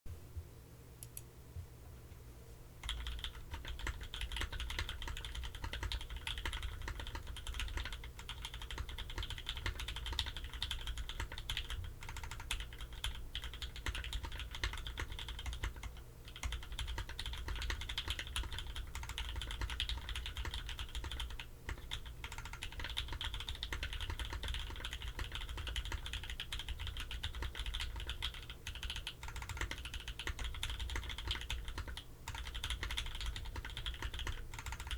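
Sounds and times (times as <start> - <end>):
mechanical keyboard typing: 2.8 - 34.9.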